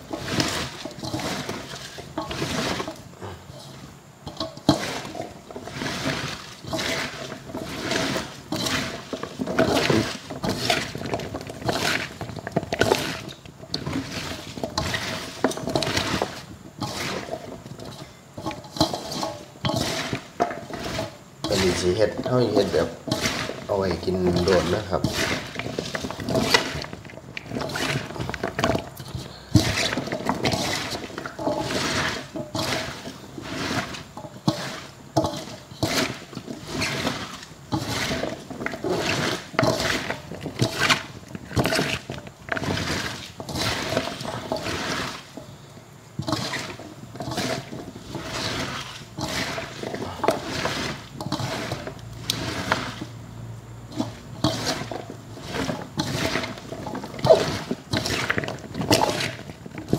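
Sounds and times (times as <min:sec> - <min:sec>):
bamboo shoots crunching in bowl: 0:00.0 - 0:59.9.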